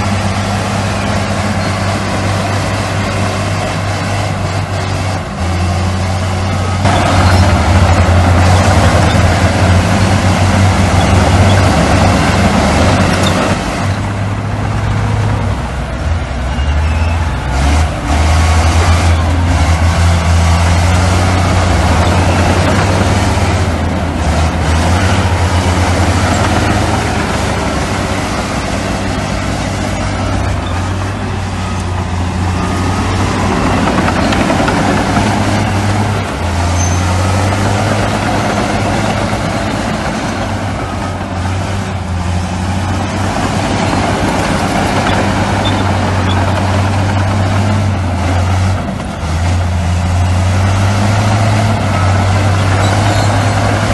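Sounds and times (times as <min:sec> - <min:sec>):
dense mechanical noise: 0:00.0 - 0:53.9
heavy diesel machinery drone: 0:00.0 - 0:53.9.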